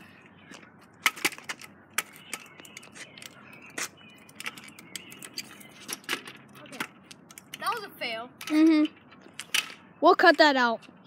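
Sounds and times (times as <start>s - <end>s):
kick scooter clattering on concrete: 1.0s - 11.0s.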